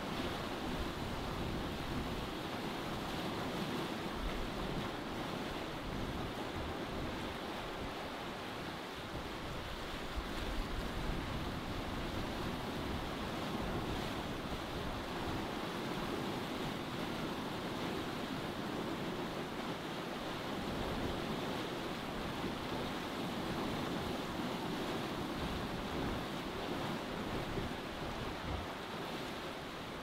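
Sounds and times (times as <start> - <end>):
water rushing along hull: 0.0 - 30.0.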